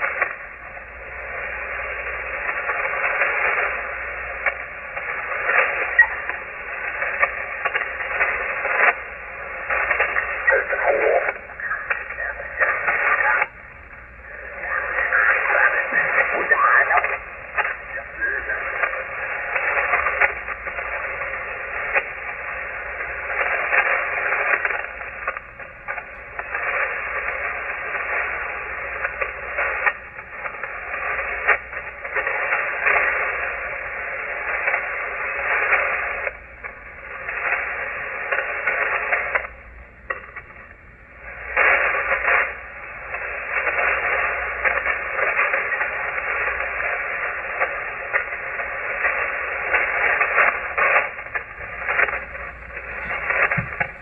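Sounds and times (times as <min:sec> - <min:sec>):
radio static hiss: 0:00.0 - 0:54.0
sharp radio crackles: 0:00.0 - 0:54.0.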